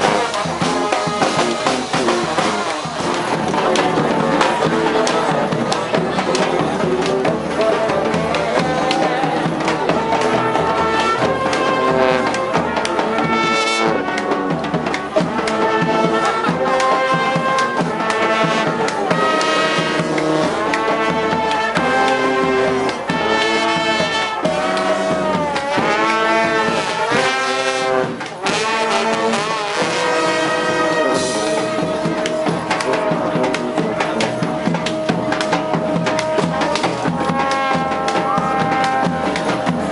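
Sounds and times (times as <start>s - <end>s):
street brass band playing: 0.0s - 39.9s.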